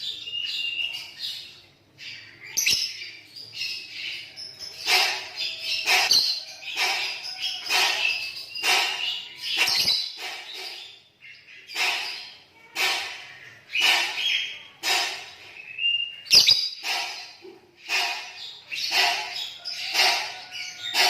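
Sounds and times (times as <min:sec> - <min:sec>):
lovebirds chattering and whistling: 0:00.0 - 0:21.0.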